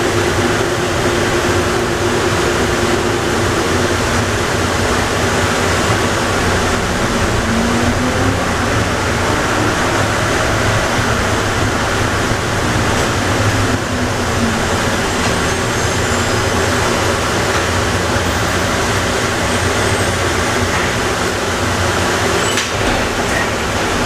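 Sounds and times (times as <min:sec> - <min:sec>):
train running rumble: 0:00.0 - 0:24.0.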